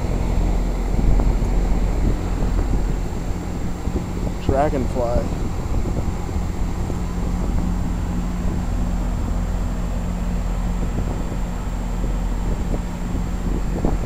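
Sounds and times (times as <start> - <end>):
heat pump units humming: 0.0 - 14.0
higher hum tone: 0.0 - 14.0.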